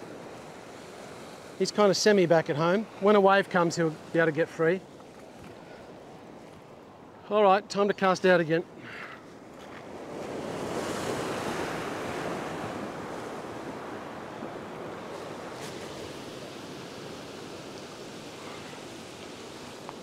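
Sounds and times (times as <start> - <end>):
surf washing over rocks: 0.0 - 7.6, 8.2 - 20.0.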